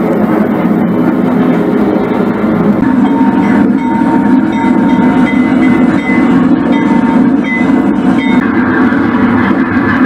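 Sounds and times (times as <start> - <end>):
model locomotive engine rumble: 0.0 - 10.0.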